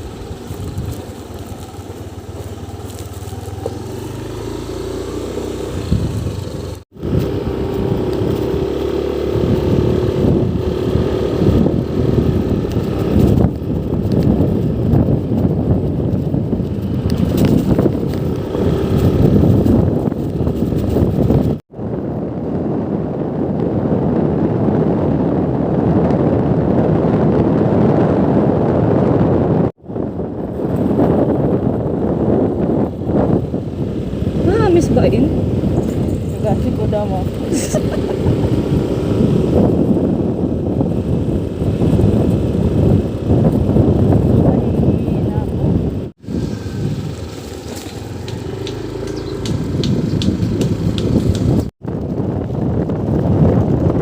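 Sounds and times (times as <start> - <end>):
vehicle engine and road noise: 0.0 - 54.0
wind buffeting microphone: 0.0 - 54.0.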